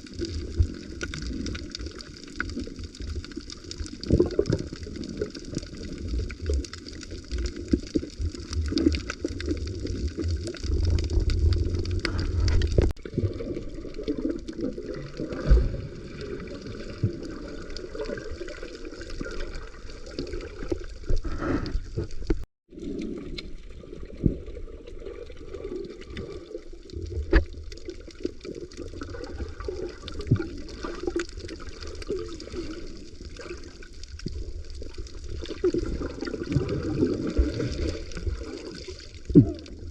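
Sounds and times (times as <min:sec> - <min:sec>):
crackle of small clicks: 0:00.0 - 0:13.1, 0:13.9 - 0:39.9
water gurgling underwater: 0:00.0 - 0:39.9.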